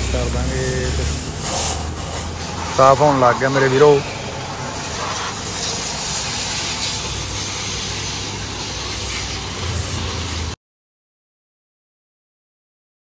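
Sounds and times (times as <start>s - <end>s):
hose water spraying: 0.0s - 10.6s.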